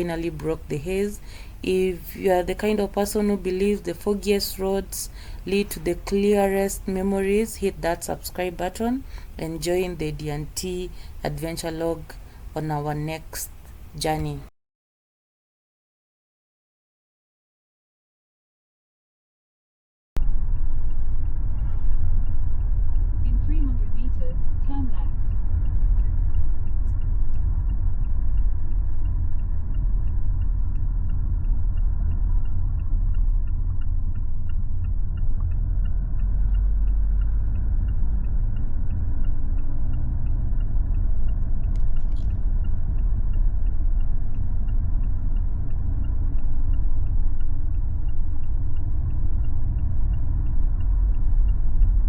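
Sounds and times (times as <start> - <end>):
car interior rumble: 0.0 - 14.4, 20.2 - 52.0
faint even ticking: 0.0 - 14.5, 20.2 - 52.0.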